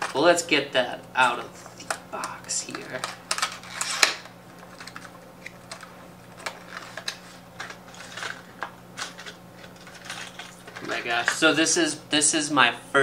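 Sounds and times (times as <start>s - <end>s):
cardboard and plastic packaging rustling: 1.2s - 11.7s.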